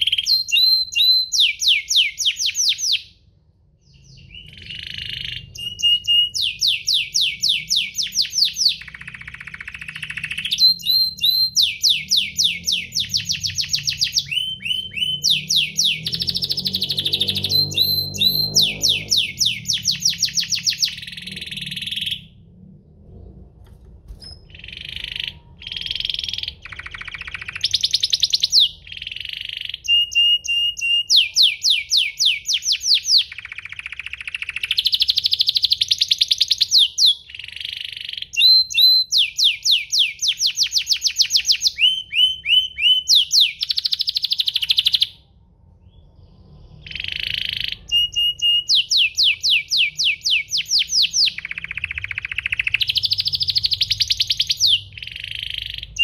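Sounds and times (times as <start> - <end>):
canary singing trills: 0.0 - 22.5, 24.1 - 56.0.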